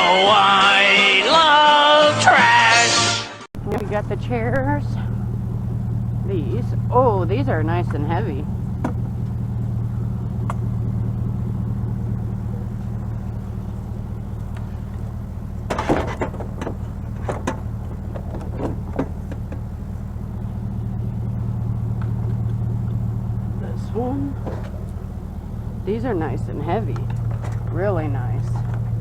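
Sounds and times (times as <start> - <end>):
knocks and clatters: 3.6 - 25.8, 26.7 - 29.0
car engine idling: 3.6 - 29.0.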